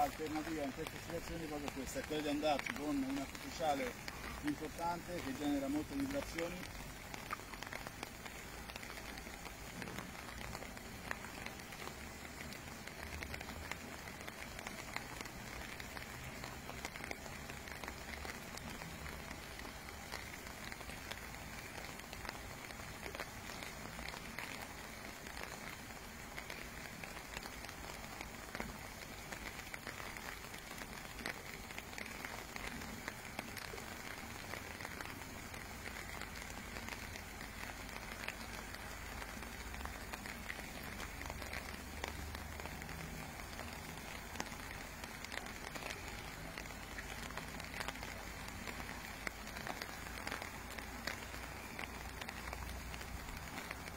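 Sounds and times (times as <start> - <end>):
rain falling on lake: 0.0 - 53.9.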